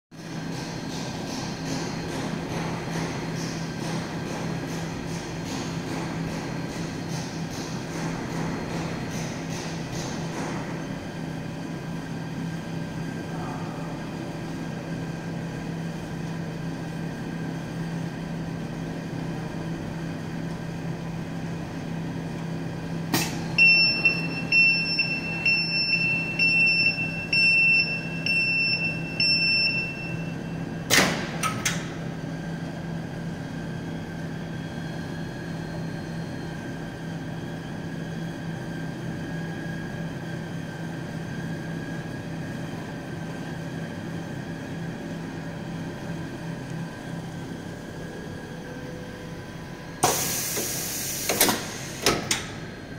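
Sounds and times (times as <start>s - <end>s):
oven fans humming: 0.2s - 52.9s.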